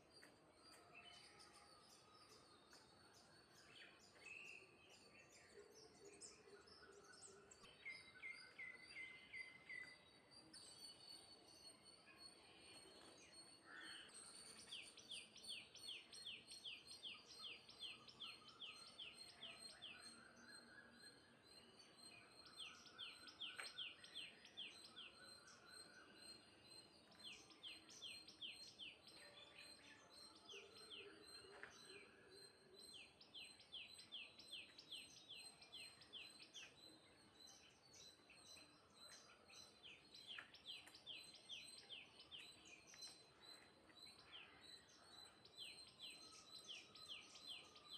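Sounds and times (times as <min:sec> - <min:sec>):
faint bird chirping: 0:00.0 - 0:47.9.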